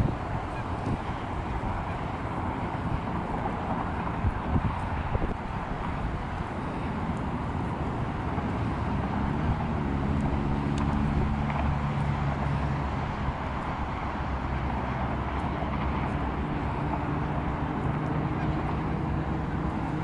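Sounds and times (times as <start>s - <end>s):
traffic rumble: 0.0s - 20.0s
vehicle engine hum: 0.0s - 20.0s.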